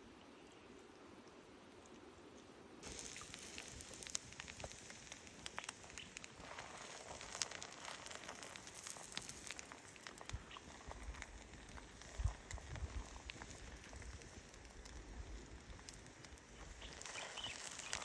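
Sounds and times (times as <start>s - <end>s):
campfire crackling: 2.8s - 18.0s.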